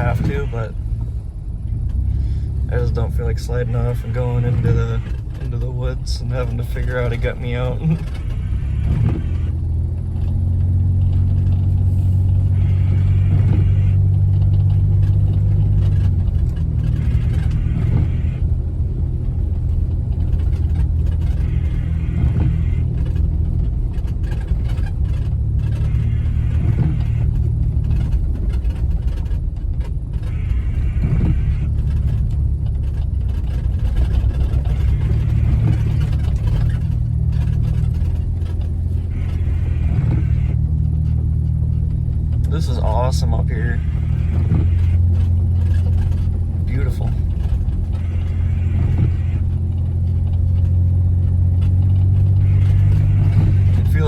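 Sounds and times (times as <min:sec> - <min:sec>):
car engine droning low: 0:00.0 - 0:54.0.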